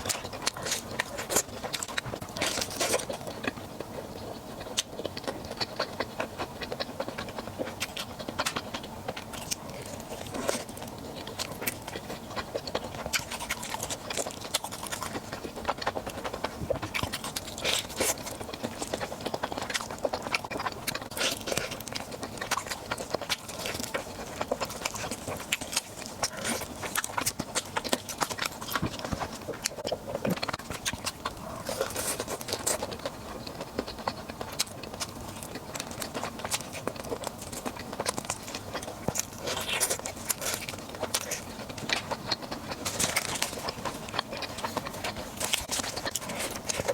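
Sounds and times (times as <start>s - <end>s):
food clicks and crunches: 0.0s - 46.9s
person chewing: 0.0s - 46.9s.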